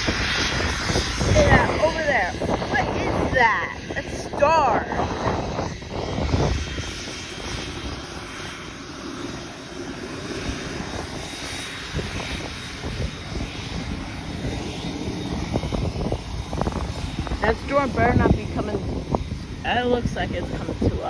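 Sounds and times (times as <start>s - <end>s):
airliner engines running: 0.0s - 21.0s.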